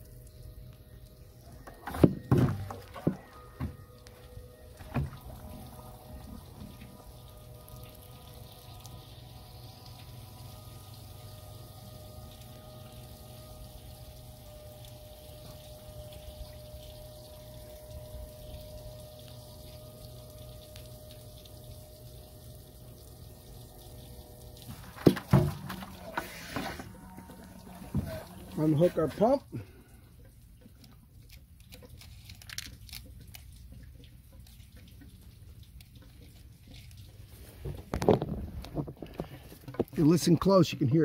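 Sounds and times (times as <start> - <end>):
pump humming: 0.0 - 41.0
faint liquid flow: 2.6 - 41.0.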